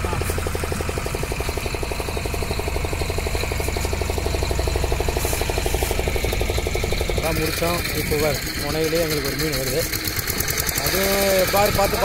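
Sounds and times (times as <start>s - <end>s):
boat engine pulsing hum: 0.0s - 12.0s.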